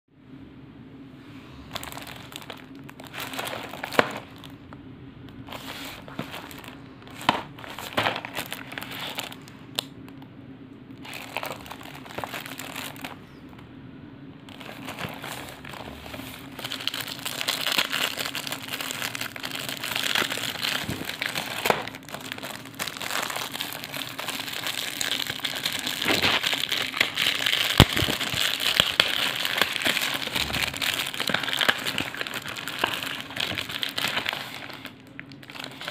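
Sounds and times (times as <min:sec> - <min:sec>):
plastic wrap crinkling: 0:01.6 - 0:10.3, 0:10.9 - 0:13.6, 0:14.4 - 0:35.9.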